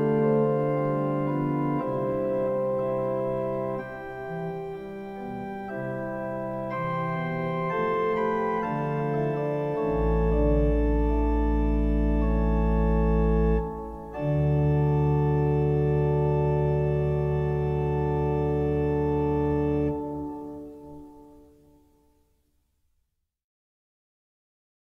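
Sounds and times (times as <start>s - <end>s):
deep organ bass note: 0.0s - 20.4s
organ playing sacred music: 0.0s - 21.6s.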